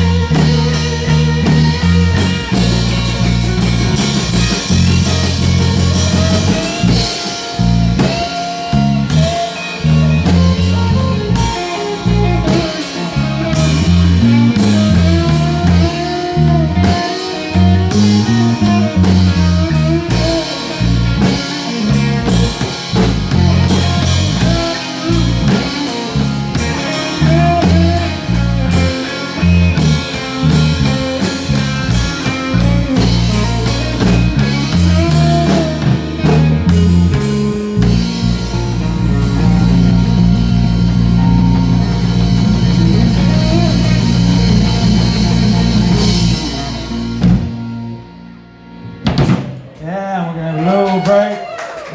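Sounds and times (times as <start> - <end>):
guitar lead with bending notes: 0.0 - 50.6
blues-rock band playing: 0.0 - 51.9.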